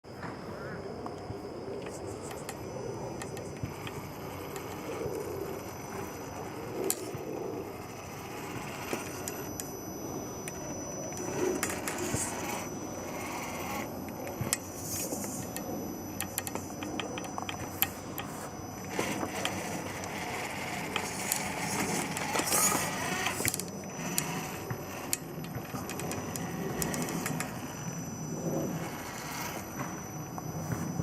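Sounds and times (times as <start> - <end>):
lathe motor whining: 0.9 - 31.0.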